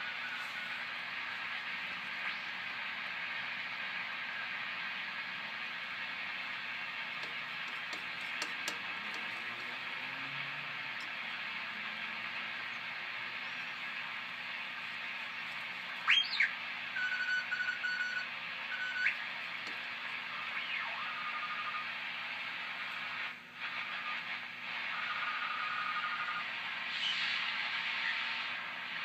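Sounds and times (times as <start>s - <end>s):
radio whistling tones sliding: 0.0s - 22.0s, 22.8s - 29.0s
radio band noise hiss: 0.0s - 29.0s.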